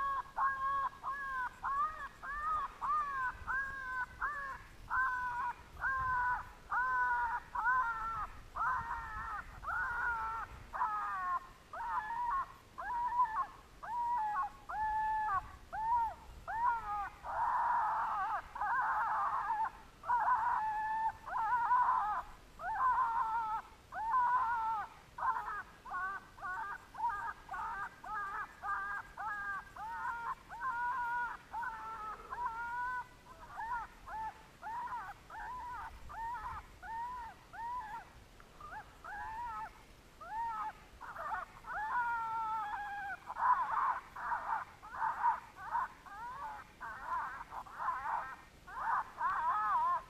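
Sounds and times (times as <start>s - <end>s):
high yelping distress cries: 0.0s - 50.0s.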